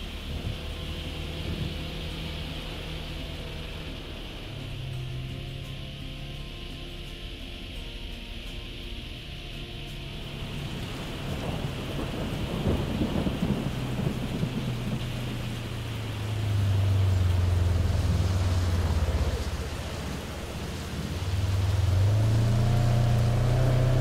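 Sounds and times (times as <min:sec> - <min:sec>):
rain on vehicle windshield: 0:00.0 - 0:24.0
vehicle engine running: 0:00.0 - 0:24.0.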